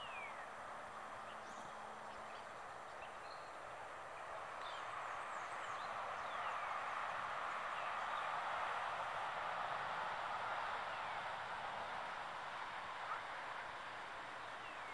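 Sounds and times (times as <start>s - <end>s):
outdoor background noise: 0.0s - 14.9s.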